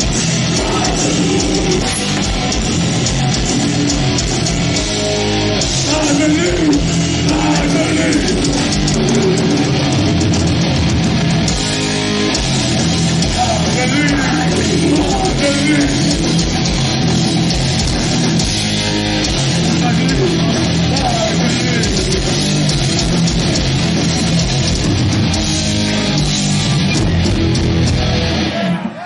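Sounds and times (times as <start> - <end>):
death metal band playing live: 0.0 - 29.0.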